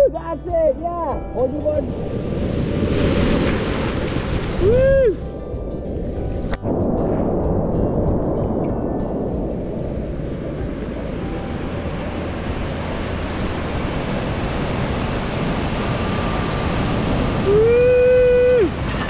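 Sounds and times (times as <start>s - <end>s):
ocean surf breaking: 1.4s - 19.0s
wind on the microphone: 1.8s - 19.0s.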